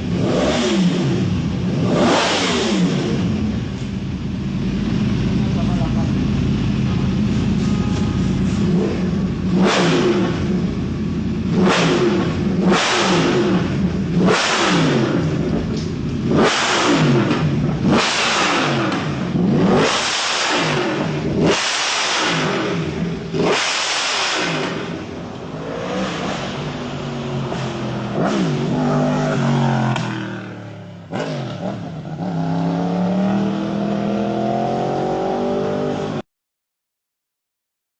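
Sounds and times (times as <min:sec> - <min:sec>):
superbike engines revving: 0:00.0 - 0:04.0, 0:04.6 - 0:36.2.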